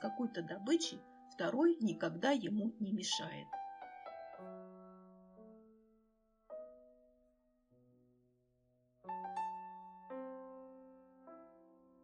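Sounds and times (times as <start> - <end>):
slow soft piano: 0.0 - 12.0.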